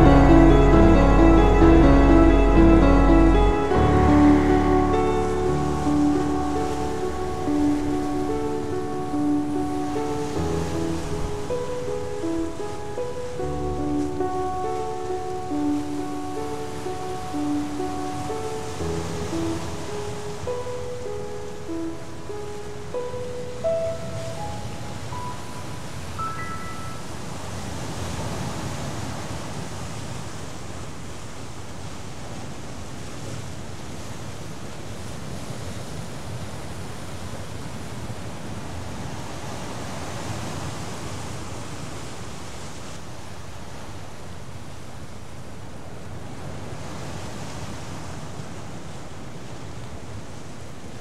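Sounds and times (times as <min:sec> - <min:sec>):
waves washing in: 0:00.0 - 0:51.0
wind: 0:00.0 - 0:51.0.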